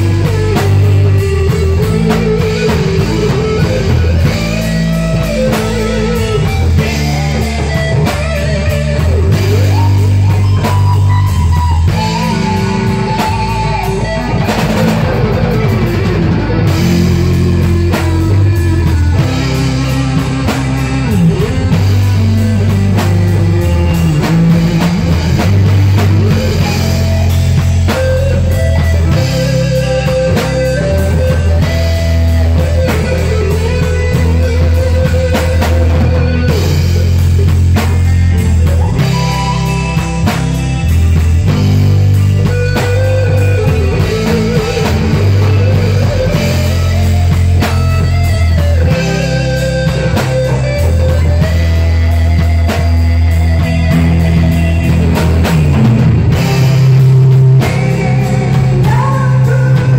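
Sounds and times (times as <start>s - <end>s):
bass guitar: 0.0s - 59.9s
drum kit beat: 0.0s - 59.9s
electric guitar lead: 0.0s - 59.9s.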